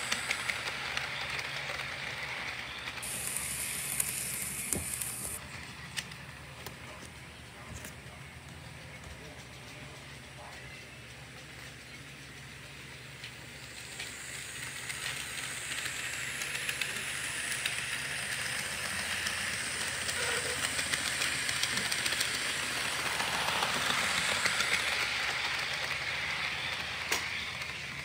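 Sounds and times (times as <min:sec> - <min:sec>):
model train rolling on plastic track: 0:00.0 - 0:28.0.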